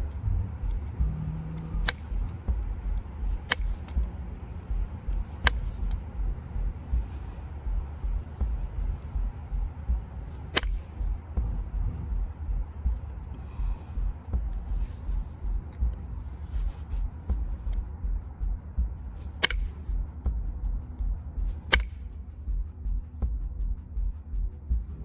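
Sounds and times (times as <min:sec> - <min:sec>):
low handling rumble: 0:00.0 - 0:25.0.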